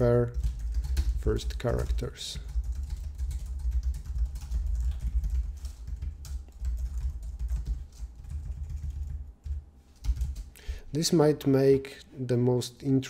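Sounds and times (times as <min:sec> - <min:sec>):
fast keyboard typing: 0:00.0 - 0:10.6.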